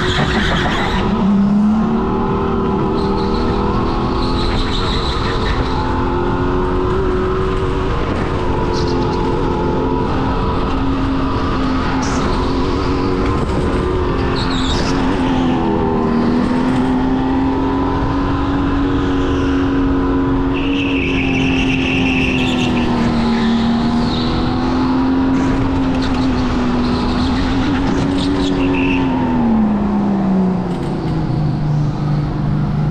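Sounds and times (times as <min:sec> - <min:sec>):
go-kart motor: 0:00.0 - 0:32.9.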